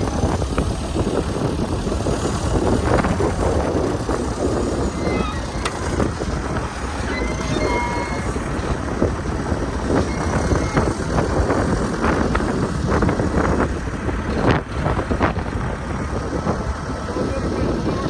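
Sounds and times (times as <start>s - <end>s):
vehicle running: 0.0s - 18.0s
wind buffeting microphone: 0.0s - 18.0s.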